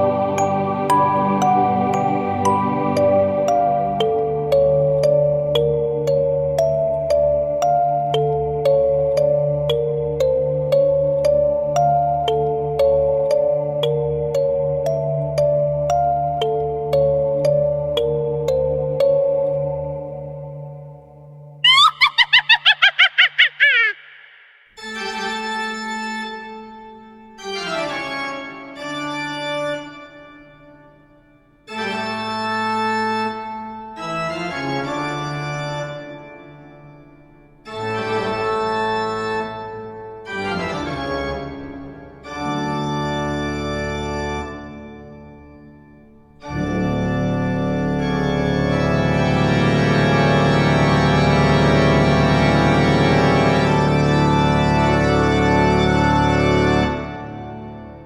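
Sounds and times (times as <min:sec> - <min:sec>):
spooky organ chords: 0:00.0 - 0:30.8, 0:31.7 - 0:58.0.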